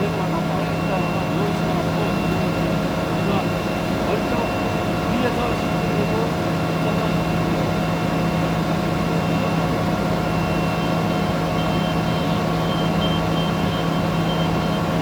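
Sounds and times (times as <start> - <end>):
industrial machine humming: 0.0 - 15.0.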